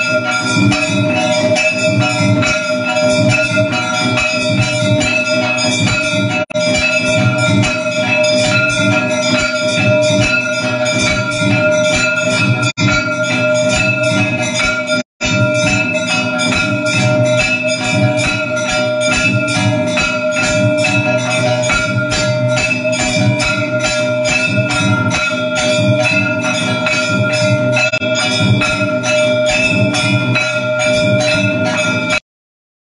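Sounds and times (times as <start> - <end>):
bells ringing: 0.0 - 32.2
metal percussion strokes: 0.0 - 32.2.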